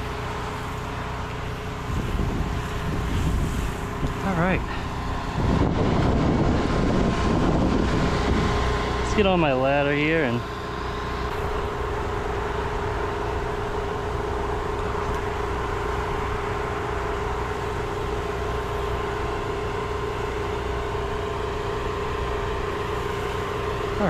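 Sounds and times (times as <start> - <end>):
spray rig motor humming: 0.0 - 24.0.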